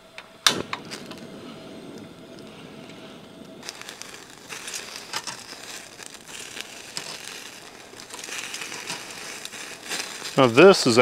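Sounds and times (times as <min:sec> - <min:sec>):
sharp crackles and pops: 0:00.0 - 0:11.0
fish sizzling on a grill: 0:00.5 - 0:11.0.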